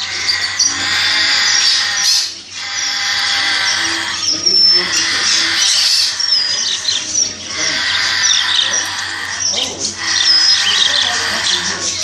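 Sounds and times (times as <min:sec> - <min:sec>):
parakeets chirping and squawking: 0:00.0 - 0:12.0.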